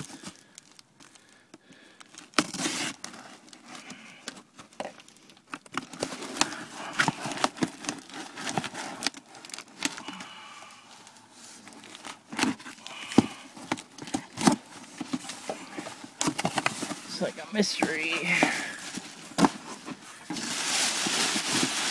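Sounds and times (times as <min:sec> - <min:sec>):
cardboard tearing and crinkling: 0:00.0 - 0:01.3, 0:02.0 - 0:21.9.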